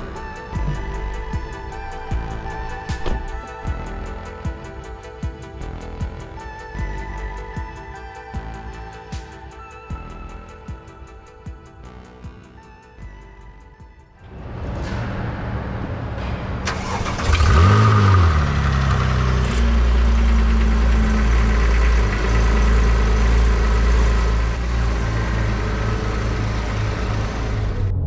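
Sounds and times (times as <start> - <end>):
car engine starting and idling: 0.0 - 28.0.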